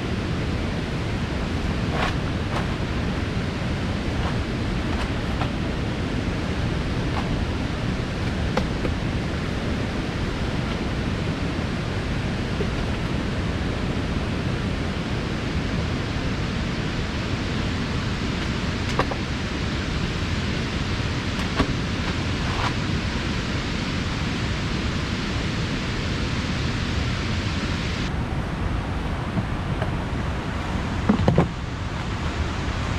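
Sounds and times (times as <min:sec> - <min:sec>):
waterfall and stream roaring: 0:00.0 - 0:32.9.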